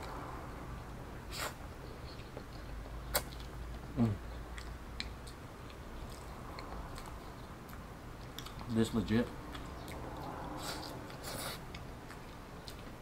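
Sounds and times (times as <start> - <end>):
chewing: 1.4 - 13.0.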